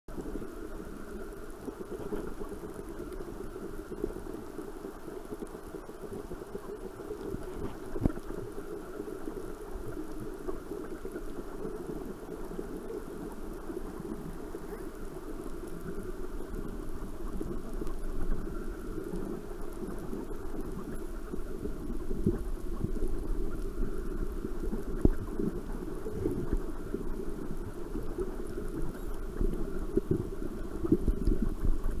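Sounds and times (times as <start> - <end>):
muffled underwater rushing: 0.1 - 32.0
underwater crackling and clicks: 0.1 - 32.0.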